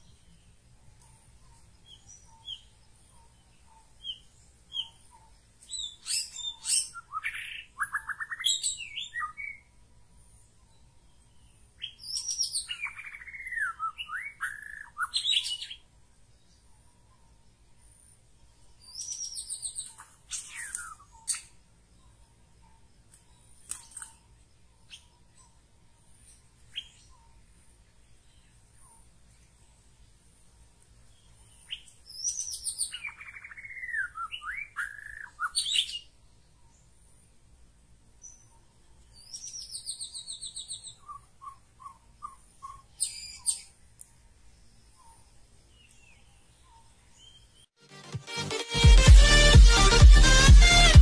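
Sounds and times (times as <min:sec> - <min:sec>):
bird chirps: 0:00.0 - 0:30.0, 0:31.1 - 0:37.2, 0:38.2 - 0:47.7.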